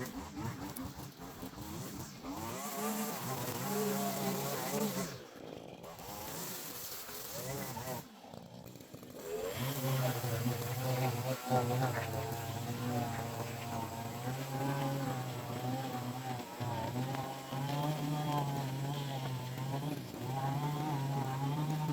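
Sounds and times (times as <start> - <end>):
garden tool engine revving: 0.0 - 21.9.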